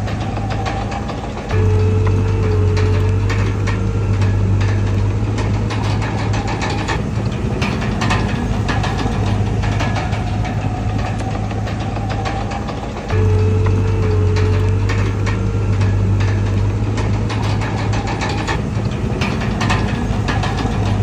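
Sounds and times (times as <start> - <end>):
bulldozer diesel engine running: 0.0 - 21.0
metallic clanks and rattles: 0.0 - 21.0.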